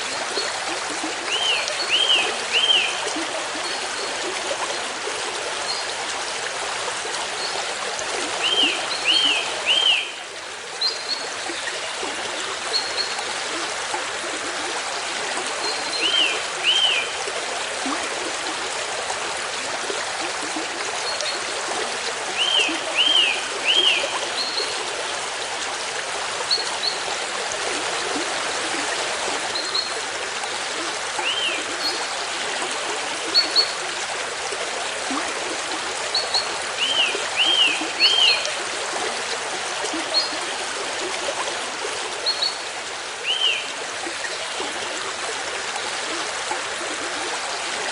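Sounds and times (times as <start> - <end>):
stream running water: 0.0 - 47.9.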